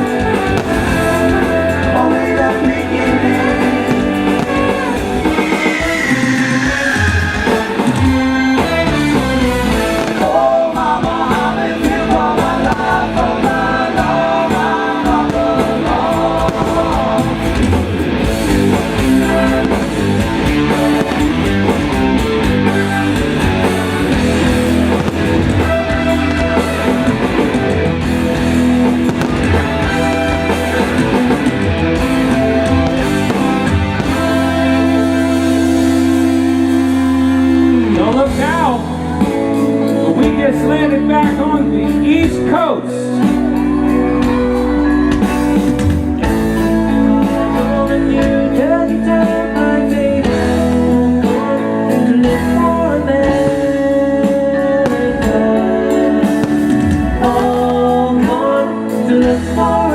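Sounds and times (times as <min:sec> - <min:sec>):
live rock band: 0:00.0 - 0:59.9.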